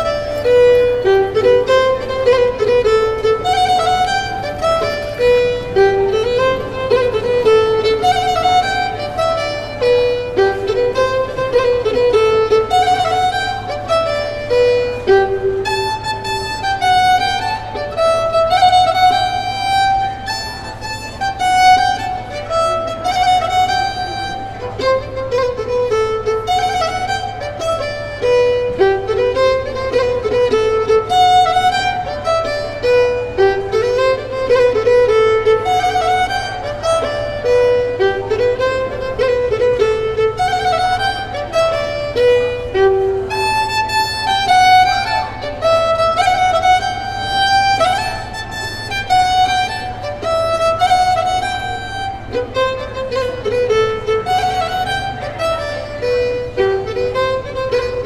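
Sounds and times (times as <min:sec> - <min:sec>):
lively violin melody: 0:00.0 - 0:58.0
steady low hum: 0:00.0 - 0:58.0.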